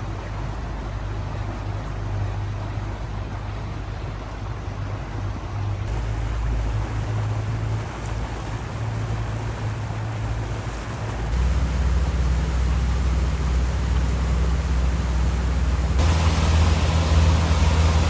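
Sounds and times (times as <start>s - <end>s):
motorboat engine humming: 0.0s - 18.0s
water rushing along hull: 0.0s - 18.0s
wind: 0.0s - 18.0s.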